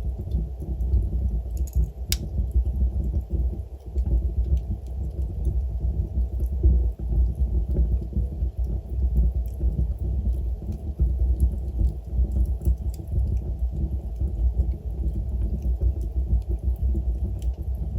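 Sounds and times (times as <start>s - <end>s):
fire crackling: 0.0s - 17.9s
fire rumbling: 0.0s - 17.9s.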